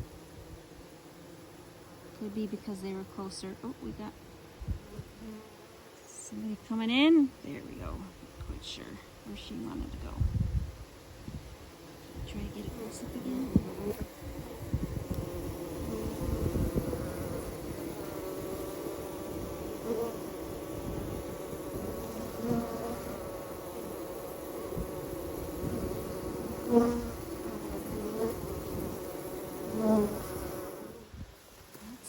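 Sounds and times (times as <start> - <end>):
honeybees buzzing: 0.0 - 32.0
single bees flying past: 0.0 - 32.0.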